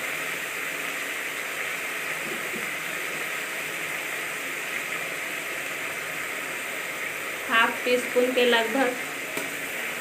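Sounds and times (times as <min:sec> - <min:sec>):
tomatoes sizzling in oil: 0:00.0 - 0:10.0.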